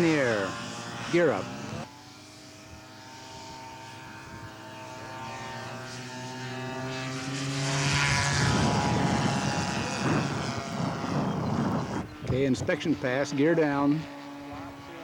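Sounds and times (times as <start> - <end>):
model airplane propeller engine drone: 0.0 - 15.0.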